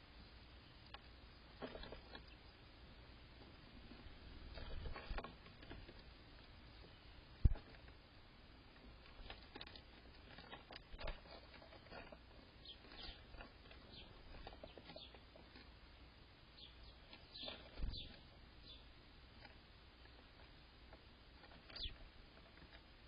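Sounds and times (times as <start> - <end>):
small birds chirping: 0.0 - 23.0
scratching and rustling: 0.9 - 2.5, 3.4 - 23.0.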